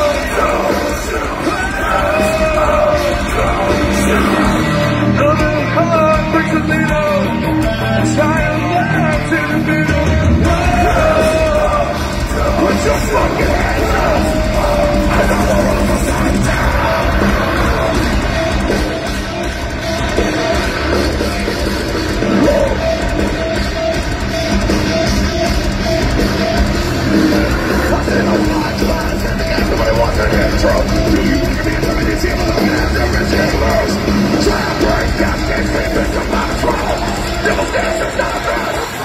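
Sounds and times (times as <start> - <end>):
live heavy metal band: 0.0 - 39.0.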